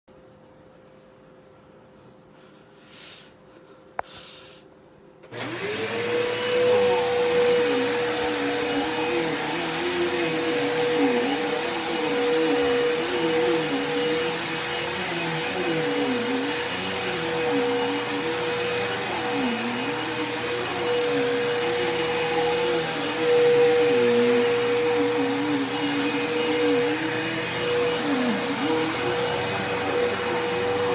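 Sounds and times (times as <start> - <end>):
vacuum cleaner motor whining: 5.2 - 30.9.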